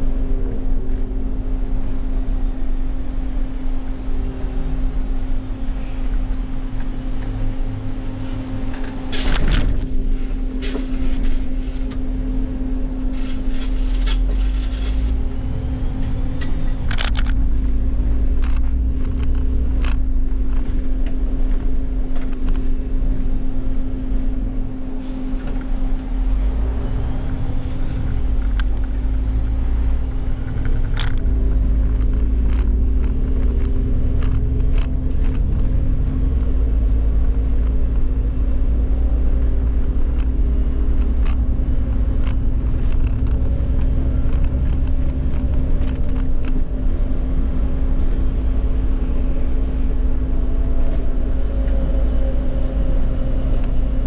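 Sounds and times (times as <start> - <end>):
bus body rattling: 0.0 - 12.1, 12.7 - 54.0
bus engine drone with whine: 0.0 - 54.0.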